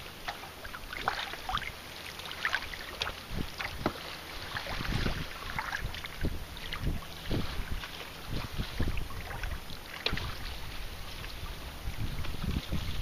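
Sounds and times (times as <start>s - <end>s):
water lapping against a hull: 0.0s - 13.0s
wind rumble on microphone: 2.5s - 13.0s.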